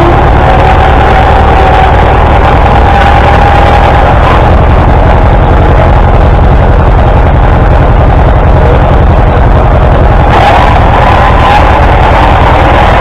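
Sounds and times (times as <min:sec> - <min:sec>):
large engine running loudly: 0:00.0 - 0:13.0.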